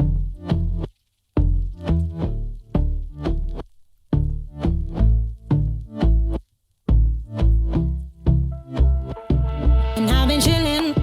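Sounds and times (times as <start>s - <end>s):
pulsing bass-heavy synth notes: 0.0s - 3.6s, 4.2s - 11.0s.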